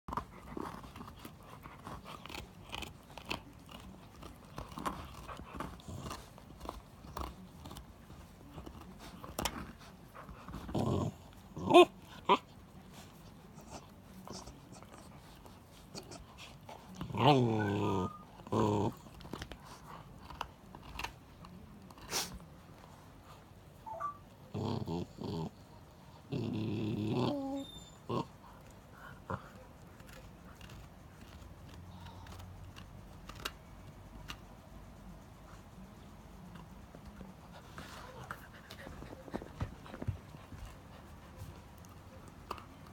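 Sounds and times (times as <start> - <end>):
dog gnawing on a bone: 0.1 - 23.3, 26.1 - 42.9.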